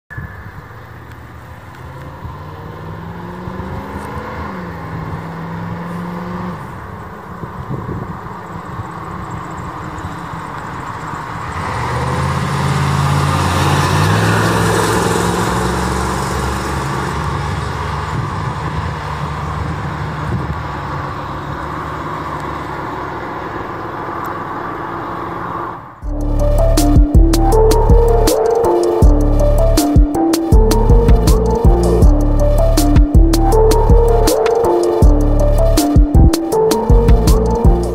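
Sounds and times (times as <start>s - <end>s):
road noise: 0.1s - 37.9s
truck engine passing: 0.2s - 37.9s.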